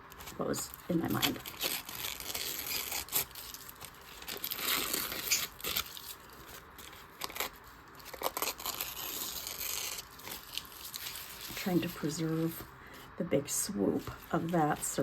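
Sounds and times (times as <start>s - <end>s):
paper rustling and tearing: 0.0s - 12.7s, 13.8s - 15.0s.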